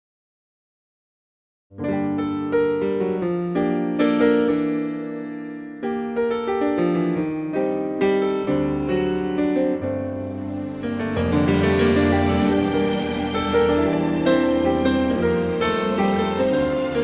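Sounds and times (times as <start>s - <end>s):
slow piano music: 1.7s - 17.0s.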